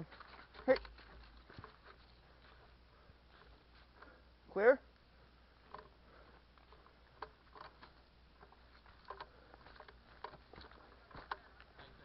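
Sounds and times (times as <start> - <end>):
faint ticks and crackles: 0.0 - 12.0.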